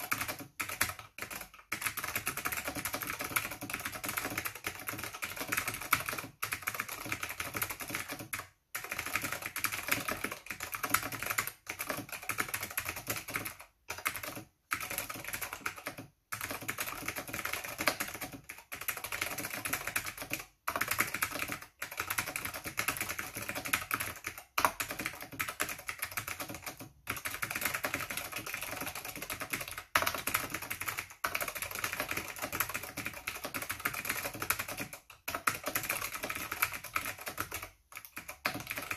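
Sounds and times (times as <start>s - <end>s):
fast typing on clicky keyboard: 0.0s - 38.9s.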